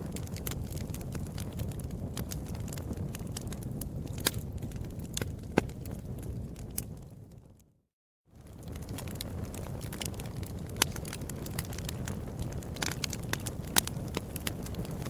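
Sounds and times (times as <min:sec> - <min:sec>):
wood fire crackling: 0:00.0 - 0:07.7, 0:08.4 - 0:15.0.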